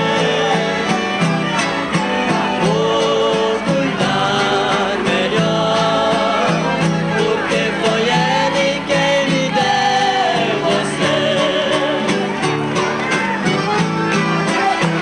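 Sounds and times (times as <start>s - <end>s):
person singing: 0.0s - 12.3s
accordion: 0.0s - 15.0s
acoustic guitars strumming: 0.0s - 15.0s.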